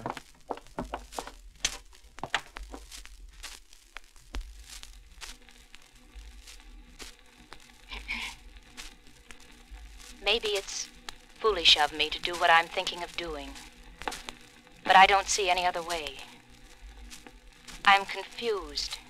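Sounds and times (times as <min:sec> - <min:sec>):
faint steady hum: 0:00.0 - 0:19.0
record surface crackle and pops: 0:00.0 - 0:19.0.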